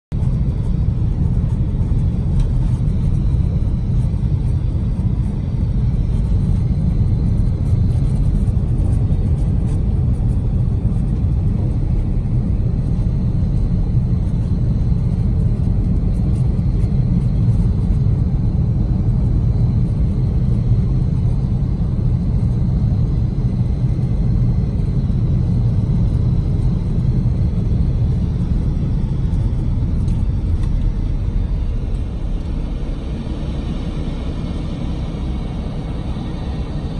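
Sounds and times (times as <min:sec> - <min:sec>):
car interior road noise: 0:00.2 - 0:34.0.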